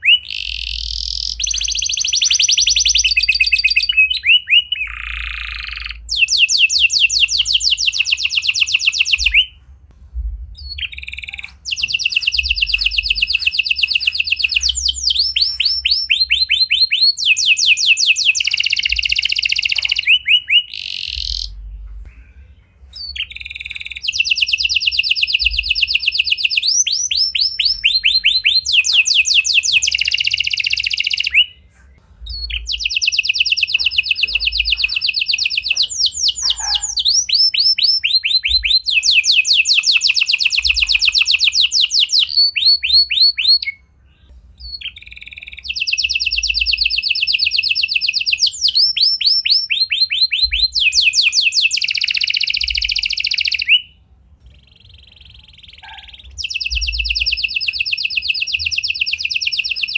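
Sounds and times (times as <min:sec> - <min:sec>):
canary singing trills: 0:00.0 - 0:09.7, 0:10.6 - 0:59.9.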